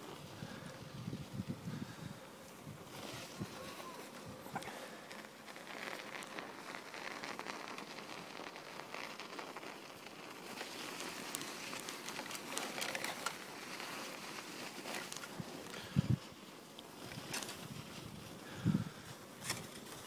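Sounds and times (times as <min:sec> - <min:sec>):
footsteps crunching on snow: 0:01.2 - 0:20.0.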